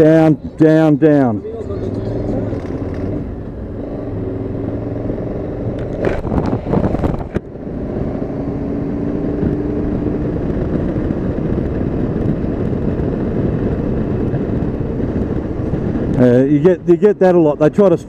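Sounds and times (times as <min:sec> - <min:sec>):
wind and road rush: 0:00.0 - 0:18.0.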